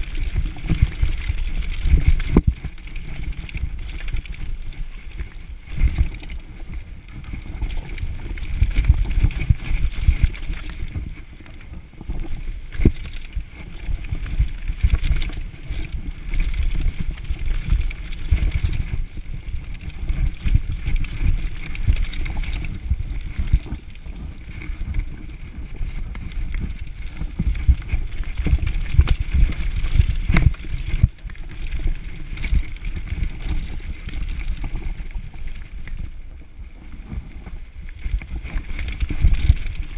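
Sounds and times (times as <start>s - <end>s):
bike rattling over bumps: 0.0s - 39.9s
bike tyres rumbling on dirt: 0.0s - 39.9s
wind noise on microphone: 0.0s - 39.9s.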